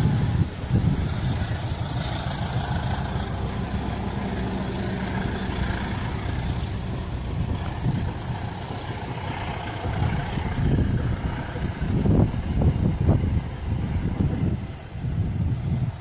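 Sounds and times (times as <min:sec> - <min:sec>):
diesel locomotive engine running: 0:00.0 - 0:16.0
wind buffeting microphone: 0:00.0 - 0:16.0.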